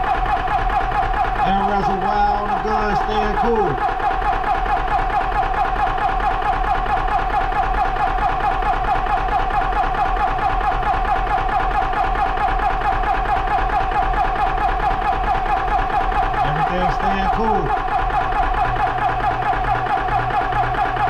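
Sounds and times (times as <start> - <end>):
air compressor pulsing hum: 0.0 - 21.0.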